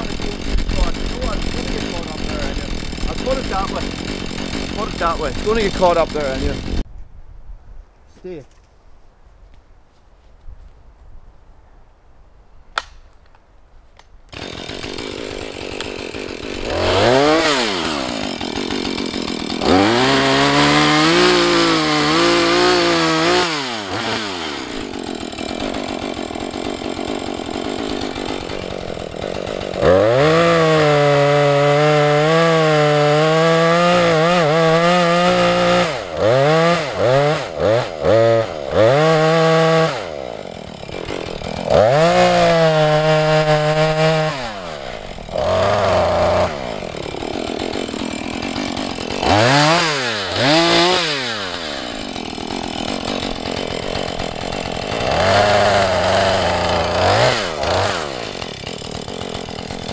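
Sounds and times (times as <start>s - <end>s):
chainsaw revving and cutting tree: 0.0s - 6.9s, 14.3s - 59.9s.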